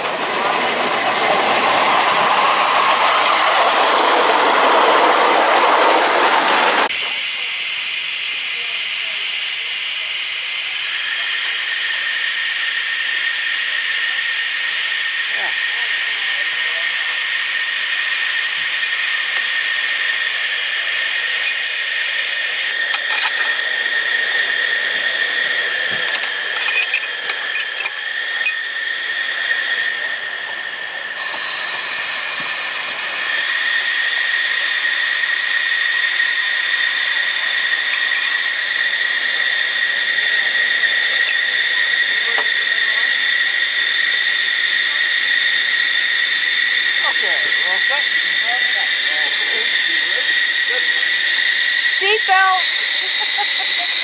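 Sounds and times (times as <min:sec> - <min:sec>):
steam jetting out: 0:00.0 - 0:54.0
steam locomotive hissing: 0:00.0 - 0:54.0.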